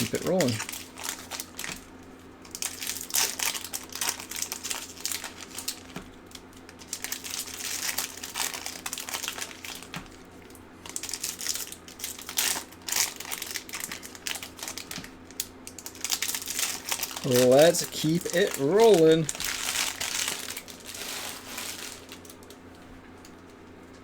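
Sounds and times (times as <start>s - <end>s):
card packs torn open: 0.0s - 1.8s, 2.5s - 10.0s, 10.9s - 22.6s
plastic wrappers crinkling: 0.0s - 22.8s.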